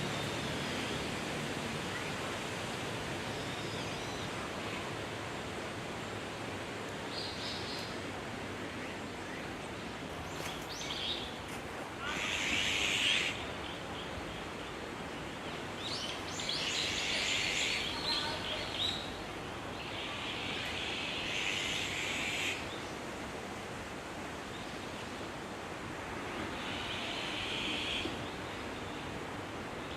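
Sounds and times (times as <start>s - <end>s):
outdoor hiss: 0.0s - 29.9s.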